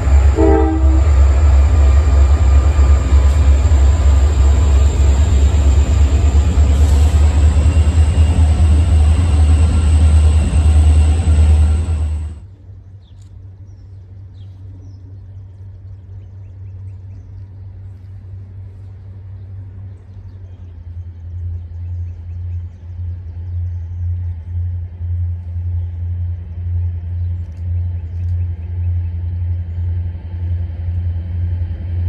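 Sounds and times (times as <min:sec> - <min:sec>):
low rumble: 0:00.0 - 0:12.7, 0:15.0 - 0:32.0.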